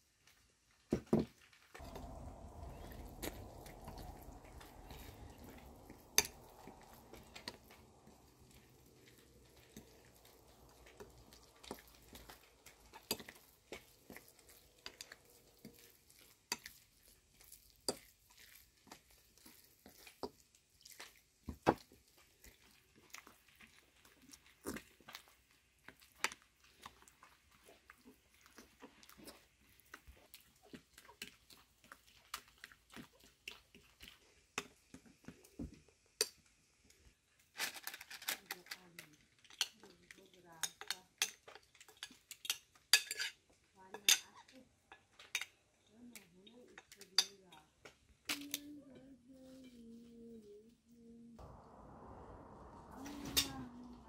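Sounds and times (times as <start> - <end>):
spoon stirring wet batter: 1.7 - 37.4, 38.9 - 49.8.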